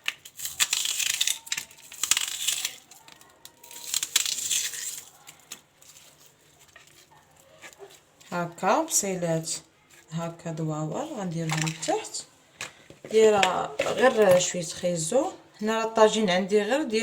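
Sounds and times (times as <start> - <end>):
onion rings rustling: 0.0 - 10.2, 10.9 - 15.1.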